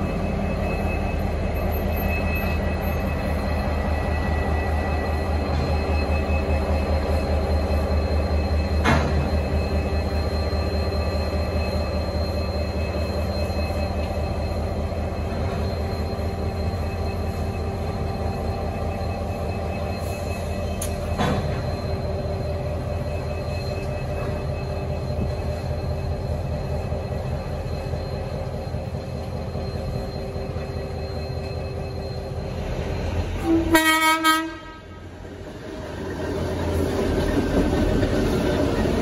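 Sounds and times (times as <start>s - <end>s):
locomotive engine rumble: 0.0s - 39.0s.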